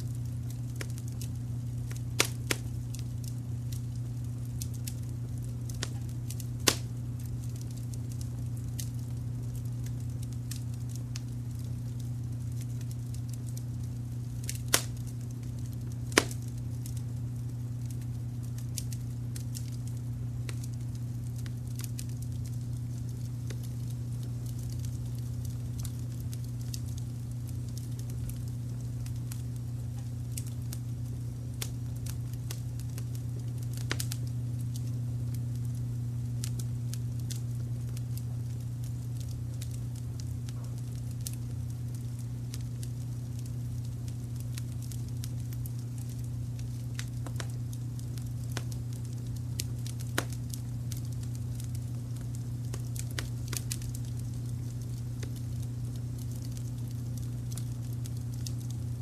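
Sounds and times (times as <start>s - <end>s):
fire crackling and popping: 0.0s - 59.0s
low brown noise rumble: 0.0s - 59.0s.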